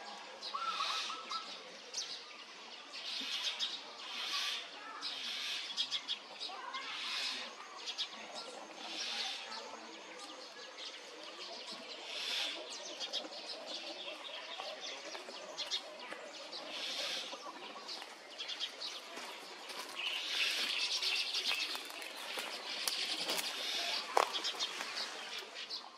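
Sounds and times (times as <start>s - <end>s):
small birds chirping: 0.5s - 25.9s.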